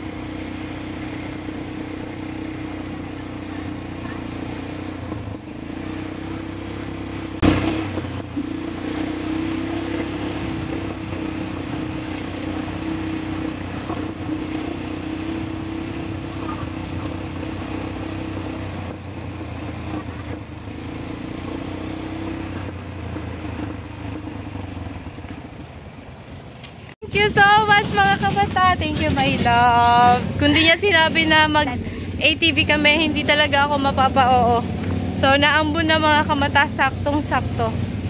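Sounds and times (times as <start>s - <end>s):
quad bike engines running: 0.0s - 38.0s.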